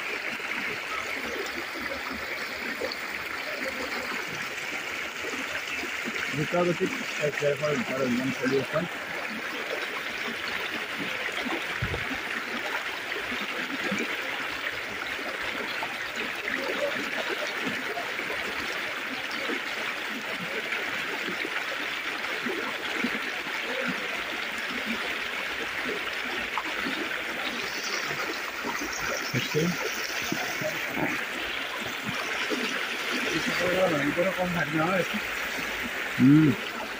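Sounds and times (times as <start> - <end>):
floodwater rushing: 0.0 - 36.9.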